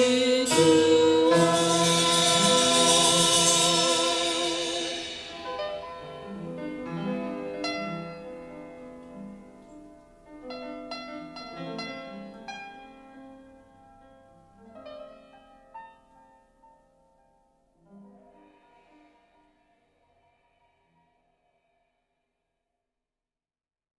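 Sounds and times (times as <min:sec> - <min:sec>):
slow piano notes and chords: 0:00.0 - 0:21.7.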